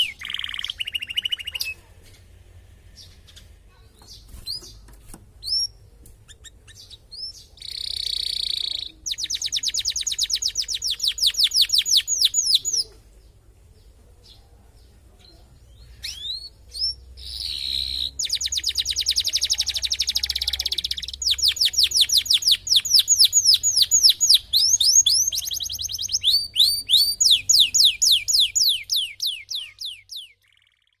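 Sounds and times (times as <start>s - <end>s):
canary singing: 0.0s - 1.8s, 3.0s - 13.0s, 15.2s - 31.0s.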